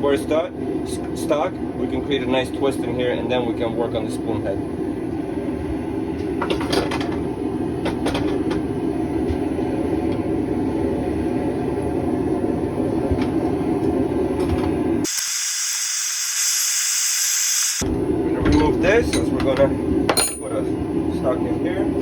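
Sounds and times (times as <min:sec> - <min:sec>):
forge burner rushing: 0:00.0 - 0:22.0.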